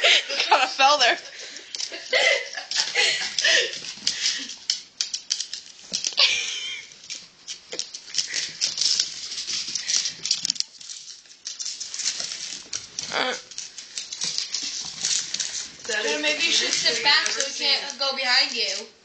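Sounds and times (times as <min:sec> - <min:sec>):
claws pattering and scrabbling: 0:01.3 - 0:18.9.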